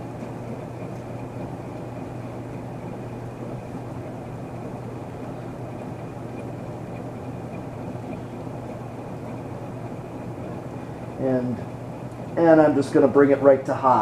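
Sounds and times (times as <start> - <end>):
ceiling fan motor hum: 0.0 - 14.0
whoosh of fan blades: 0.0 - 14.0.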